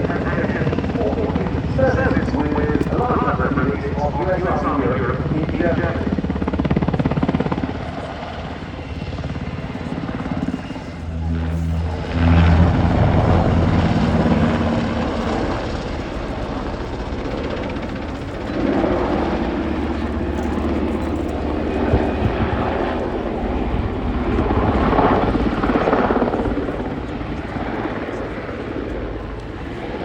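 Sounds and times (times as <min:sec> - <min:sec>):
helicopter flying past: 0:00.0 - 0:30.0.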